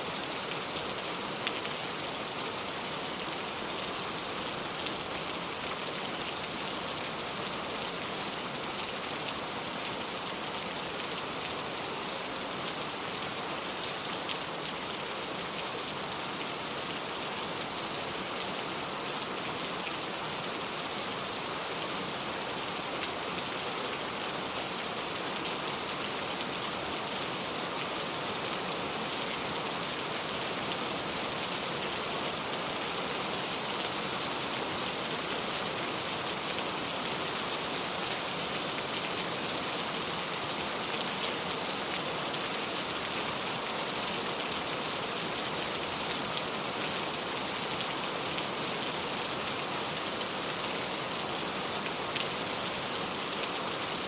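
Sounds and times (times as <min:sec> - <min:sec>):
heavy rain pouring: 0:00.1 - 0:54.0.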